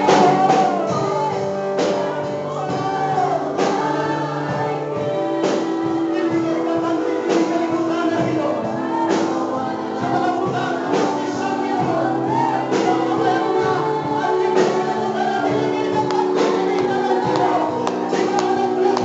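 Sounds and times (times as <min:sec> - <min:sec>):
congregation singing worship song: 0:00.0 - 0:19.0.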